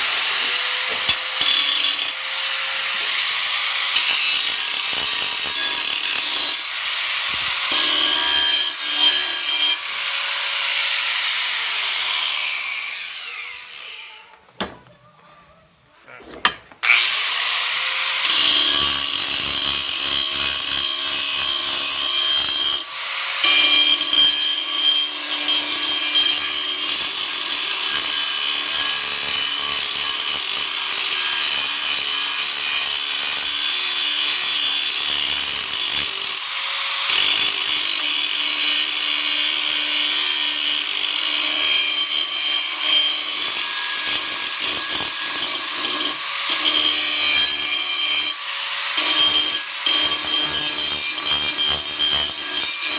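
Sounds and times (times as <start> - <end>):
power tool cutting steel: 0.0 - 14.7, 16.4 - 52.9.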